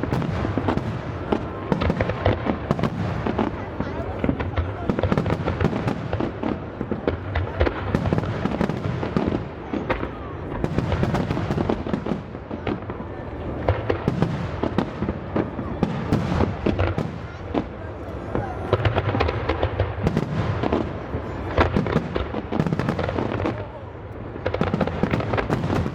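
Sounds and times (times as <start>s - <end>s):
fireworks booming and crackling: 0.0s - 25.9s.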